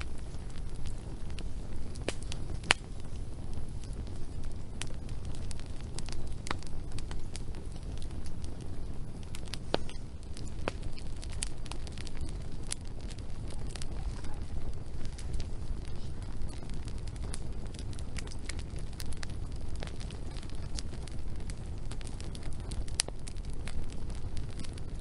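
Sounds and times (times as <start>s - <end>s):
low rumble of flame: 0.0s - 25.0s
wood fire crackling: 0.0s - 25.0s.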